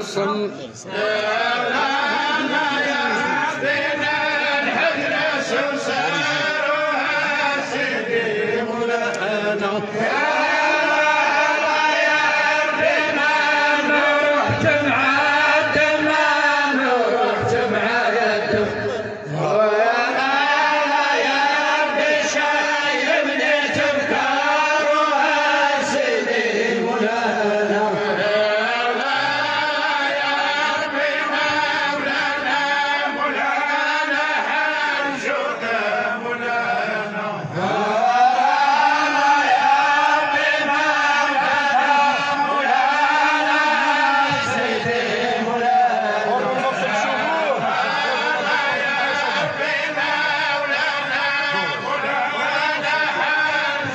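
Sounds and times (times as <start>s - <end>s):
men chanting: 0.0s - 53.9s.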